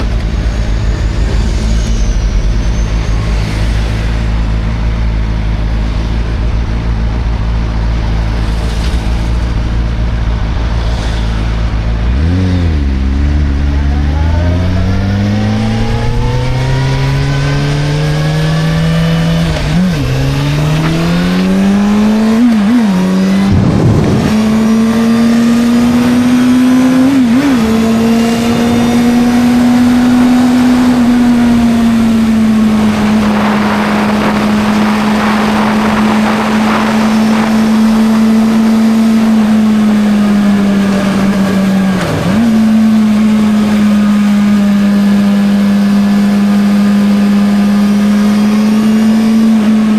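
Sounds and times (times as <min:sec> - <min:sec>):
motorcycle accelerating through gears: 0:00.0 - 0:49.9.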